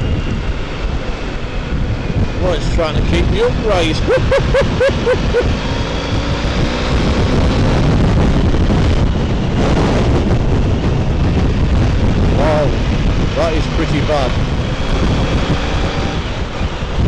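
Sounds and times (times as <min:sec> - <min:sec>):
motorbike engine running: 0:00.0 - 0:17.0
wind buffeting microphone: 0:00.0 - 0:17.0.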